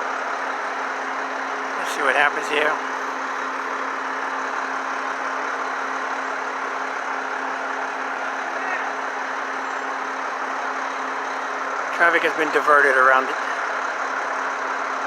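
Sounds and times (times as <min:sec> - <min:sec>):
truck engines idling: 0:00.0 - 0:15.0.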